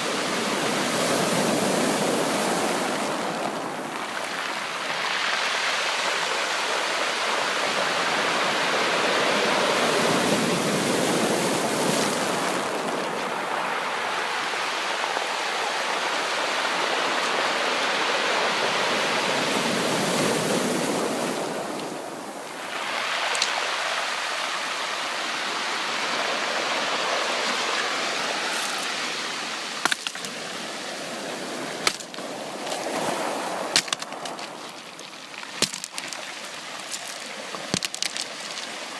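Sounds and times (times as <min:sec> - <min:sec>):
ocean surf hissing: 0:00.0 - 0:34.3.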